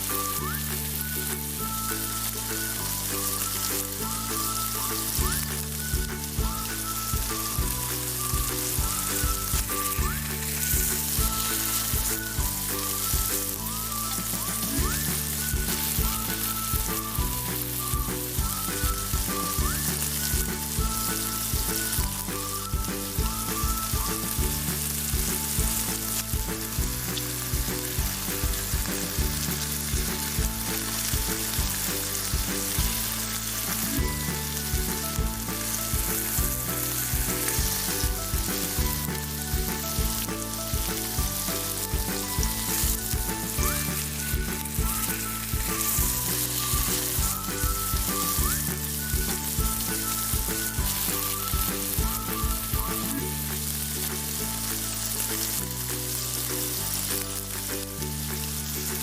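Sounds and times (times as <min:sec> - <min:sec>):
background music: 0:00.0 - 0:59.0
food sizzling in a pan: 0:00.0 - 0:59.0.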